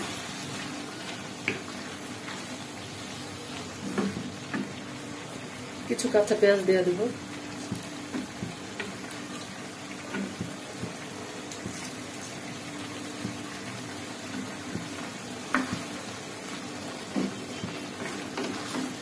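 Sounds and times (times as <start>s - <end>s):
vegetables simmering in water: 0.0s - 19.0s.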